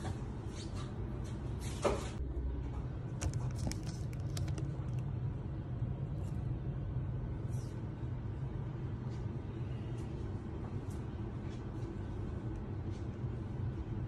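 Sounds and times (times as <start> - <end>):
low background rumble: 2.2 - 14.0.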